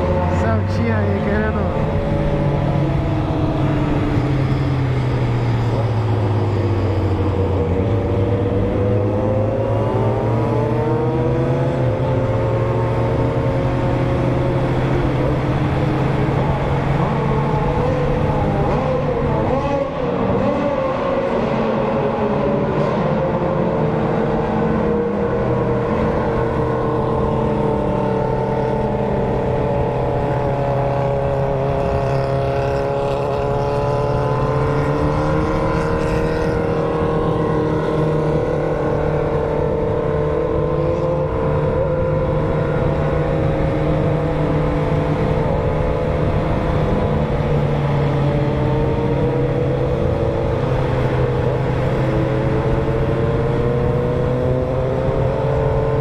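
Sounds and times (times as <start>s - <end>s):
motorcycle engines cruising: 0.0s - 56.0s.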